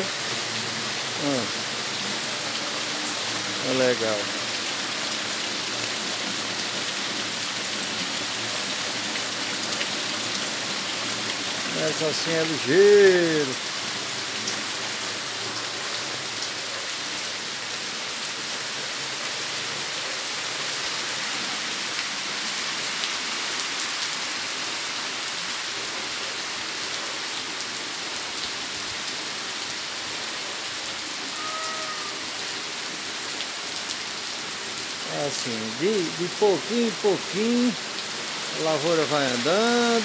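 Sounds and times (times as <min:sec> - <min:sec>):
light rain shower: 0:00.0 - 0:40.0.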